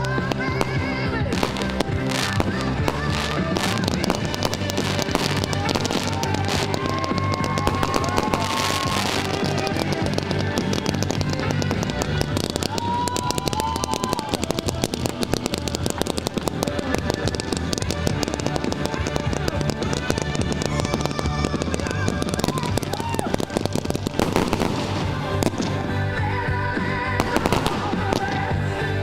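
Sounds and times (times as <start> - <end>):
fireworks crackling and popping: 0.0 - 29.0
music playing: 0.0 - 29.0.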